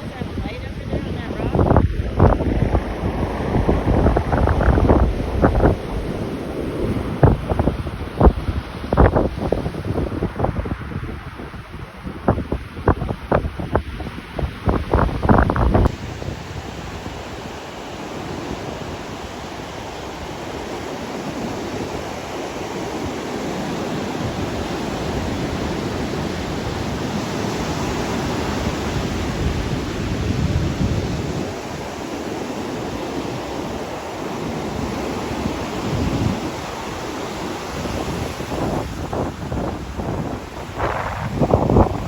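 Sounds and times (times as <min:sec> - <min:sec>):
surf washing onto beach: 0:00.0 - 0:42.0
wind on microphone: 0:00.0 - 0:42.0.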